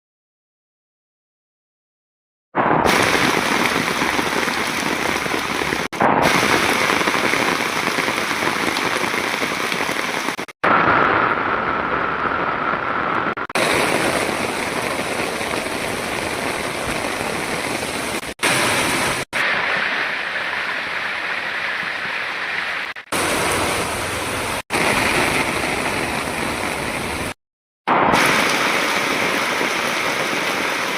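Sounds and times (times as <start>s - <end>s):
steady rain falling: 2.8s - 27.4s, 28.2s - 30.9s.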